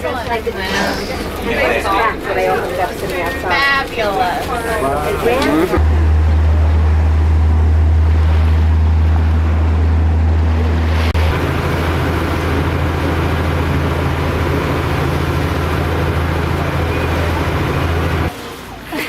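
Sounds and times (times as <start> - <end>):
boat engine droning: 0.0 - 19.0
water: 0.0 - 19.0.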